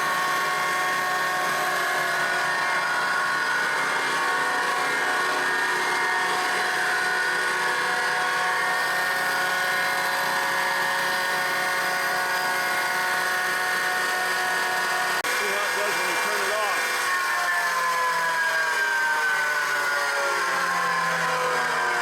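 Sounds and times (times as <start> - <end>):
noisy bearings: 0.0 - 22.0
planer motor whining: 0.0 - 22.0.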